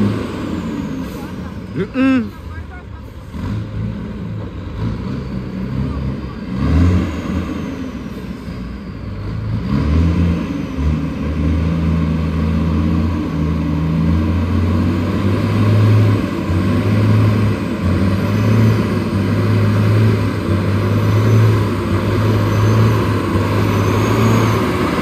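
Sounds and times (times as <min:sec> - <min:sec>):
heavy diesel truck engine: 0:00.0 - 0:25.0.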